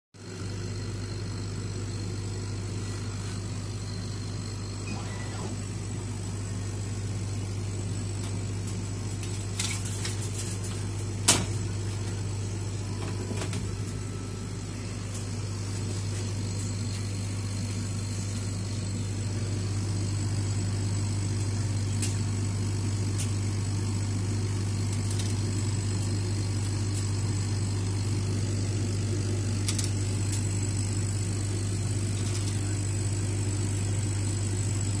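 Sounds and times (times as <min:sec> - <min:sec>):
low machine hum: 0:00.2 - 0:35.0.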